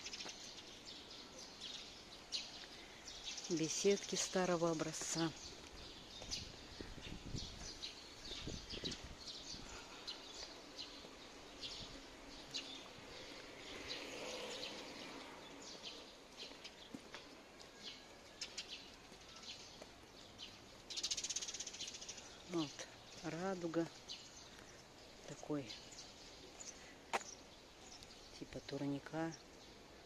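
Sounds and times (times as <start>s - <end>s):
birds chirping: 0.0s - 30.0s
soft outdoor hiss: 0.0s - 30.0s.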